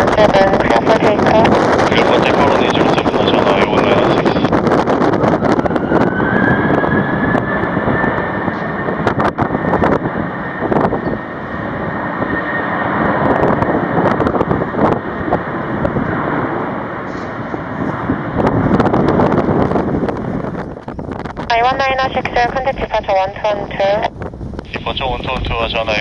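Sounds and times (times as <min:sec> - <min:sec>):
jet engines whining: 0:00.0 - 0:26.0
wind buffeting microphone: 0:00.0 - 0:26.0.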